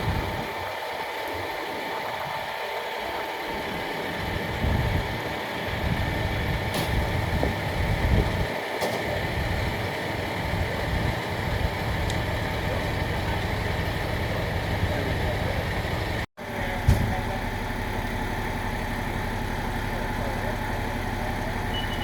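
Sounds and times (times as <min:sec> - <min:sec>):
large engine idling: 0:00.0 - 0:22.0.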